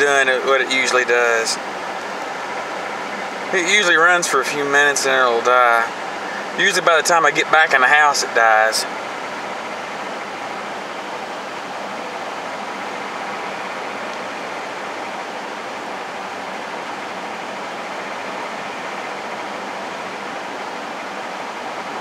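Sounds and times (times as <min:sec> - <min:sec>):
heater blower fan hissing: 0:00.0 - 0:22.0.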